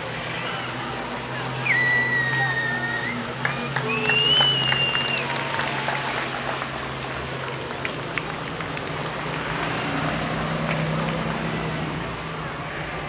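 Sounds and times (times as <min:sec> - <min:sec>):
cars driving slowly past: 0:00.0 - 0:13.0
street noise: 0:00.0 - 0:13.0.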